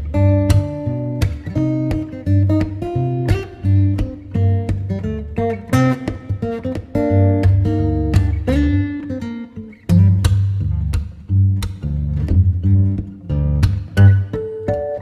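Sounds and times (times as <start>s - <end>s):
plucked guitar: 0.0s - 15.0s.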